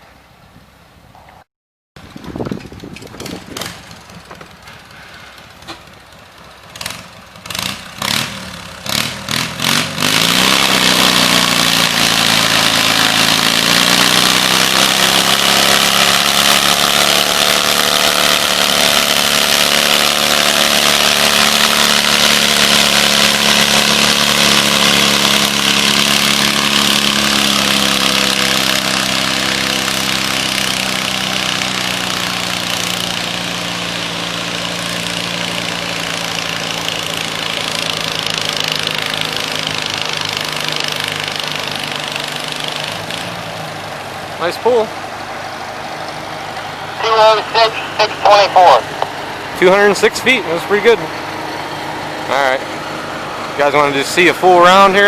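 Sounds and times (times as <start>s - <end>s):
tractor engine under load: 2.0s - 55.0s.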